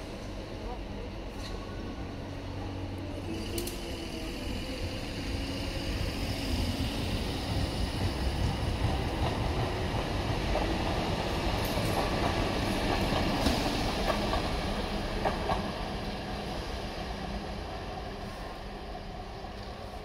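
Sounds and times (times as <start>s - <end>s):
electric train wheels rumbling: 0.0s - 20.0s.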